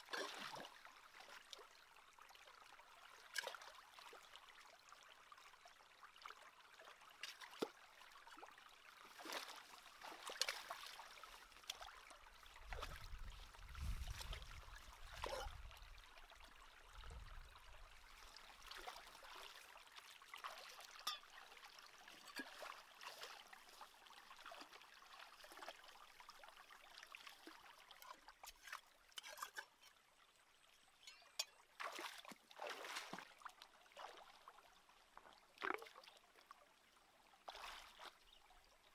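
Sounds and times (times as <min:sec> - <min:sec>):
small splashes in water: 0:00.0 - 0:01.6, 0:03.1 - 0:04.4, 0:06.8 - 0:30.0, 0:31.0 - 0:36.5, 0:37.4 - 0:38.4
stream trickling over rocks: 0:00.0 - 0:38.9.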